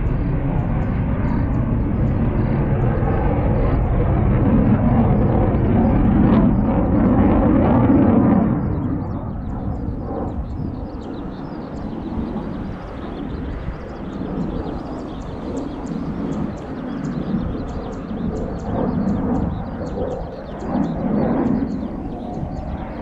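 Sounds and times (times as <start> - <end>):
aircraft engine rumble: 0.0 - 23.0.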